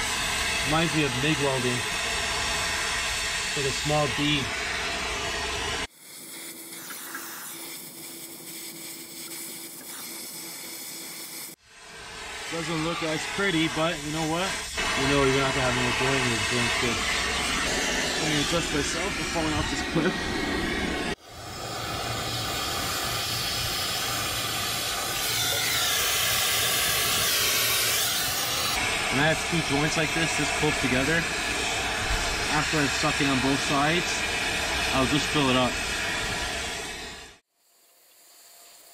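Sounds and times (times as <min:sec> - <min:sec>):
torch flame hissing: 0:00.0 - 0:38.9.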